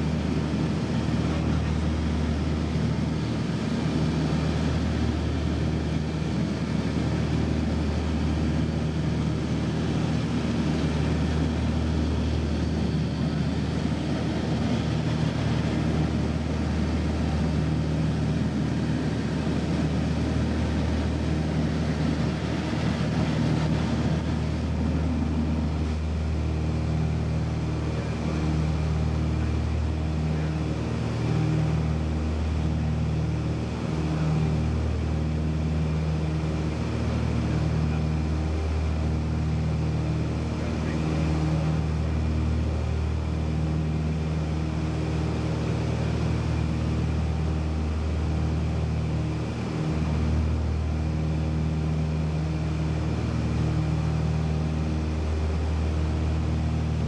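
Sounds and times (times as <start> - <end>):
aircraft engine and propeller droning: 0.0 - 57.0.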